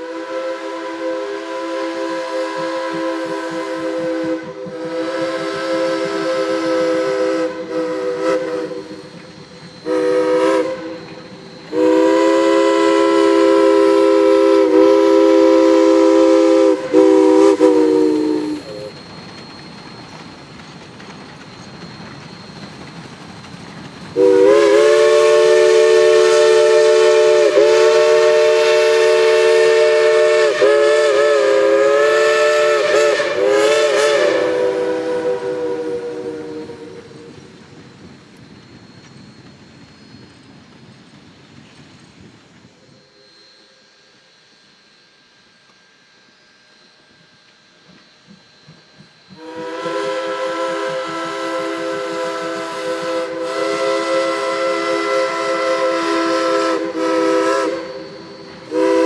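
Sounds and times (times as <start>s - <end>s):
steam whistle blasts: 0.0s - 19.3s, 24.1s - 37.6s, 42.8s - 59.0s
locomotive running noise: 0.0s - 59.0s.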